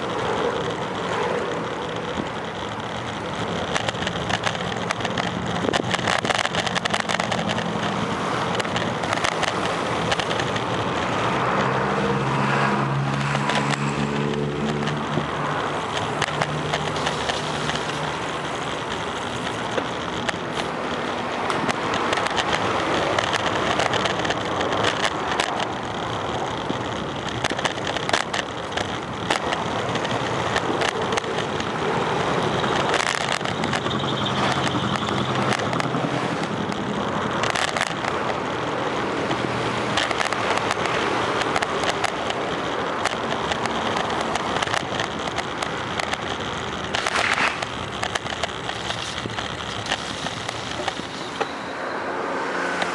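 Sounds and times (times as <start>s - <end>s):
bicycle rattles and knocks: 0.0s - 52.9s
road traffic: 0.0s - 52.9s
tyre and wind noise: 0.0s - 52.9s.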